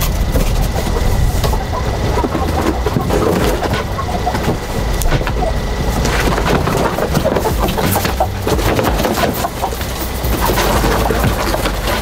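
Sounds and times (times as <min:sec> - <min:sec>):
cardboard boxes scraping and rustling: 0:00.0 - 0:12.0
low rumble: 0:00.0 - 0:12.0.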